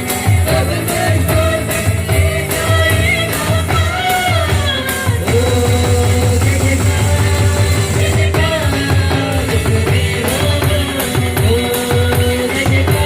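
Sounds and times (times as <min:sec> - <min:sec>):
band accompaniment: 0:00.0 - 0:13.0
steady drum beat: 0:00.0 - 0:13.0
voices singing worship song: 0:00.0 - 0:13.0.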